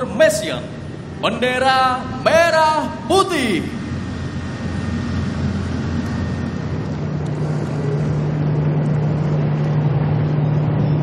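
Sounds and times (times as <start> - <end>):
helicopter rotor and engine drone: 0.0 - 11.0
low hum: 0.0 - 11.0.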